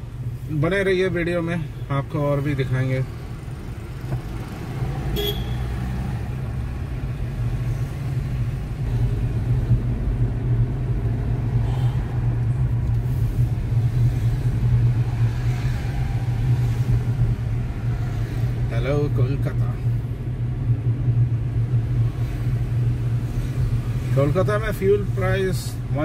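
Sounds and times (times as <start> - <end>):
car engine drone from cabin: 0.0 - 26.0.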